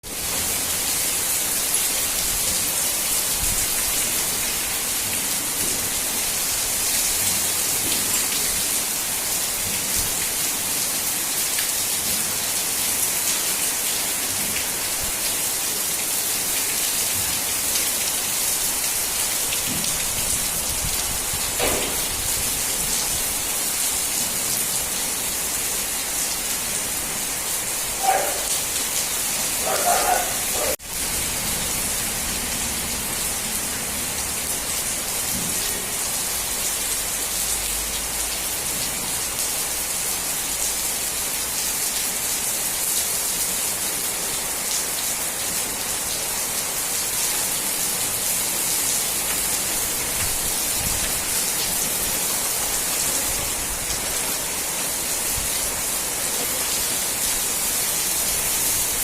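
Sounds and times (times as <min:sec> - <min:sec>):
torrential rain pouring: 0:00.0 - 0:59.0.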